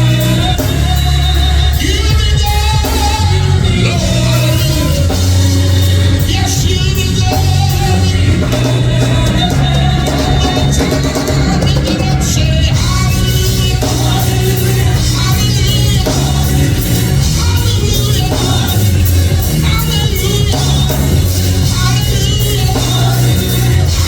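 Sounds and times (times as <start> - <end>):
band with steady bass line: 0.0 - 24.0
gospel singing voices: 0.0 - 24.0.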